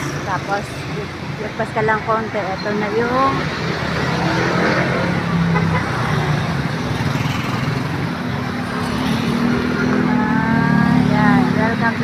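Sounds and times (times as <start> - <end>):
vehicles passing on road: 0.0 - 12.0.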